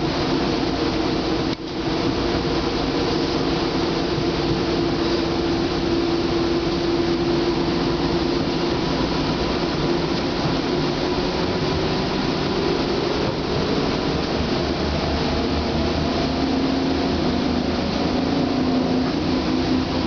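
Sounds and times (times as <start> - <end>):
tram rolling rumble: 0.0 - 20.0.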